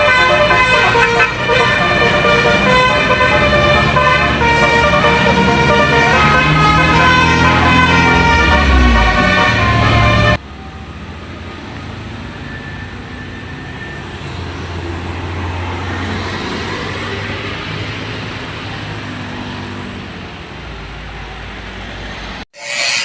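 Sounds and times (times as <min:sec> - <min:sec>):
road vehicle passing by: 0:00.0 - 0:20.3.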